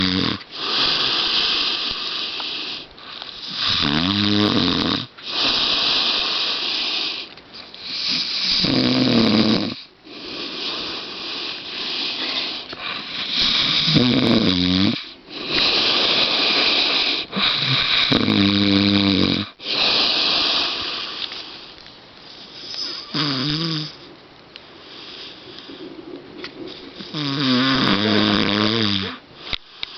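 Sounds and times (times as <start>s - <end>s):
dog snoring: 0.0s - 21.1s, 22.6s - 24.1s, 27.0s - 29.9s.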